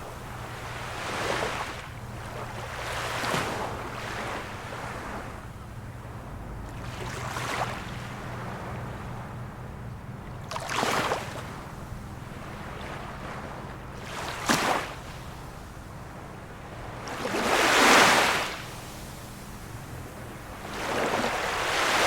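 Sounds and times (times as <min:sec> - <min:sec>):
steady low hum: 0:00.0 - 0:17.8, 0:18.4 - 0:22.0
small waves washing onto shore: 0:00.0 - 0:22.0.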